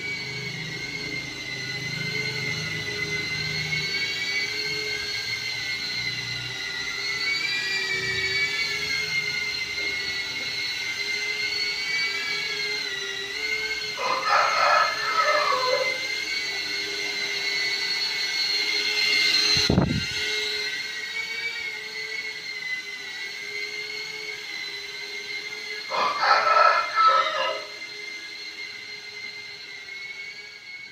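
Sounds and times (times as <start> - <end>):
drone motors whining: 0.0 - 30.9.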